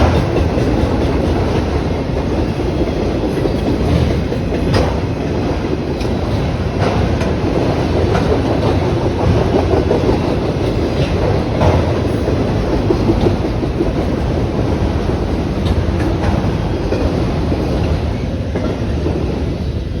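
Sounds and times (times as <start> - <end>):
wheels clicking over rail joints: 0.0 - 19.8
train wheels rumbling on rail: 0.0 - 20.0.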